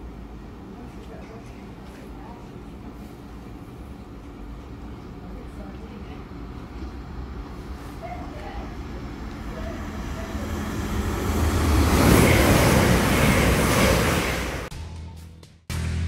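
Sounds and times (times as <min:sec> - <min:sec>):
train passing at speed: 0:00.0 - 0:14.7.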